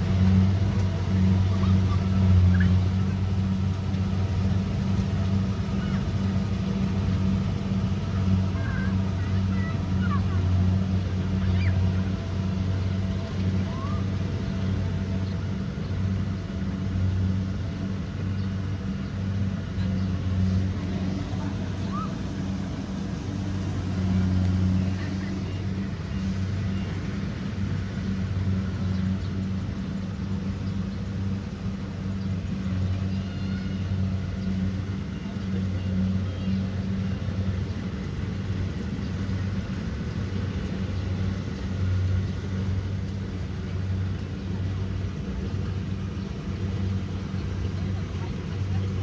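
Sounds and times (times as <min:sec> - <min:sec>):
diesel engine low drone: 0:00.0 - 0:49.0.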